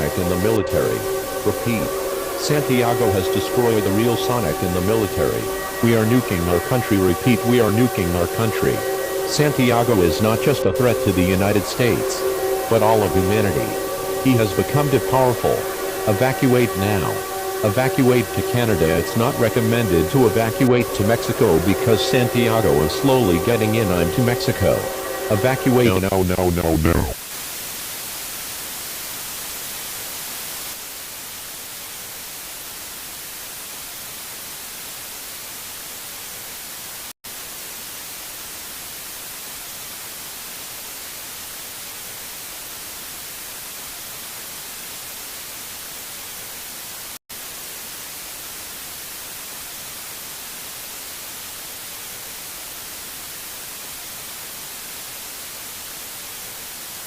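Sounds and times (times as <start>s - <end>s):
static hiss: 0.0s - 57.0s.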